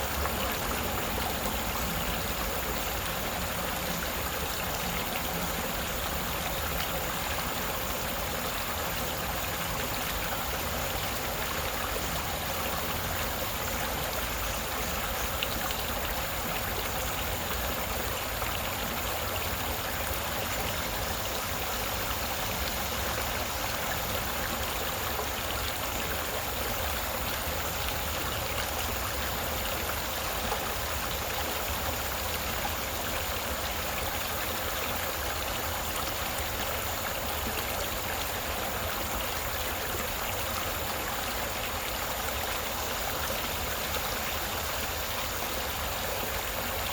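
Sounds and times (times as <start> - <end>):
creek water over rocks: 0.0 - 46.9.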